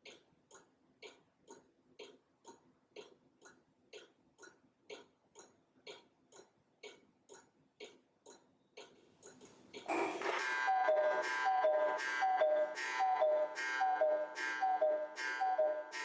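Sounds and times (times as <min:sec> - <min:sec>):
clock ticking faintly: 0:00.0 - 0:16.0.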